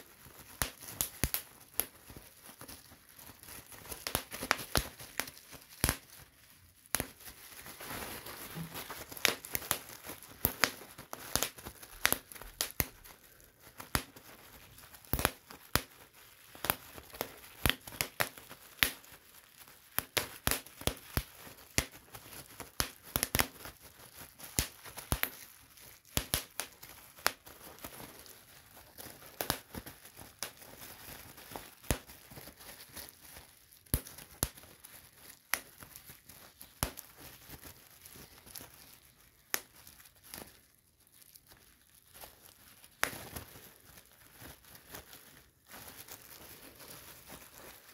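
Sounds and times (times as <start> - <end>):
bubble wrap popping: 0.0 - 47.9
plastic crinkling: 0.0 - 47.9.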